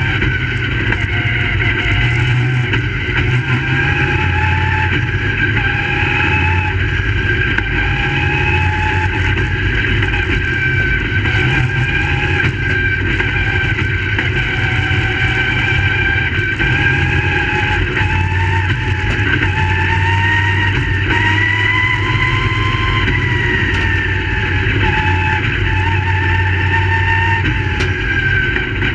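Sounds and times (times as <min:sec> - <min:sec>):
race car engines accelerating: 0:00.0 - 0:28.9.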